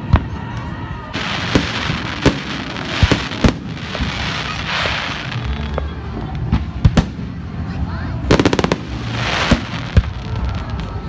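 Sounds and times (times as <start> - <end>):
fireworks bangs: 0.0 - 11.0
fizzing crackle of fireworks: 0.0 - 11.0.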